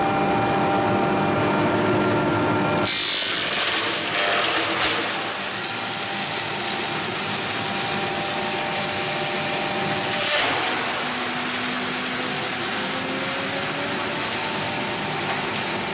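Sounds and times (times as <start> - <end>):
wood-processing machine running: 2.8 - 15.9.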